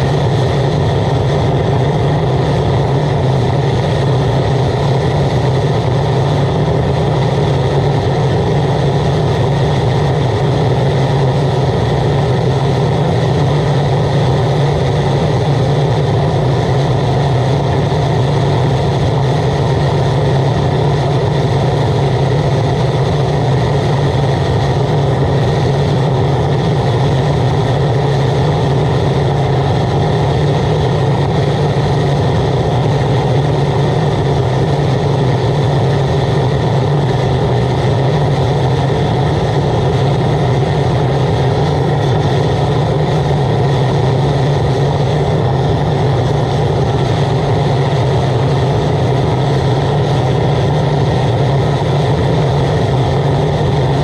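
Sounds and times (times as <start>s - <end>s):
low blower hum: 0.0s - 54.0s
oil burner rushing: 0.0s - 54.0s.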